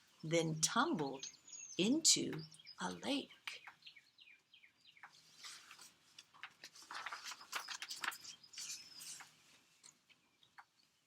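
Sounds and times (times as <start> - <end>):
birds chirping: 0.0 - 5.8, 7.2 - 11.0.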